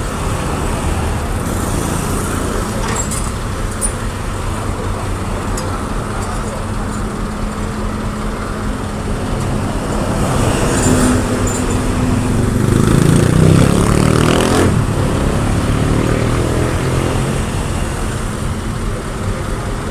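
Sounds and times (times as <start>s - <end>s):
heavy diesel engine revving: 0.0s - 19.9s.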